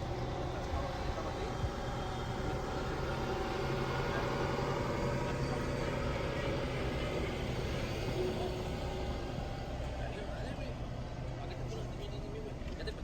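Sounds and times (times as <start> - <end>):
traffic noise: 0.0 - 13.0
vehicle engine droning: 0.0 - 13.0.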